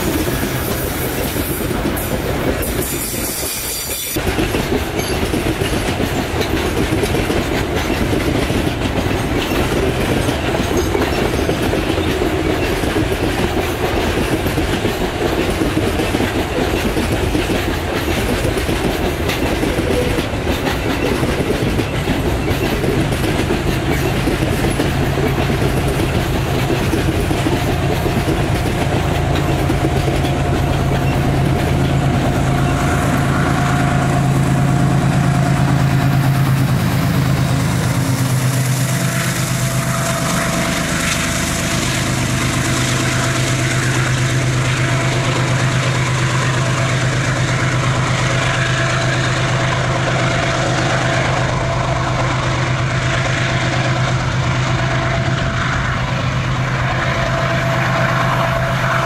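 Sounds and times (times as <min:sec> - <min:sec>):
locomotive engine drone: 0:04.0 - 0:59.0.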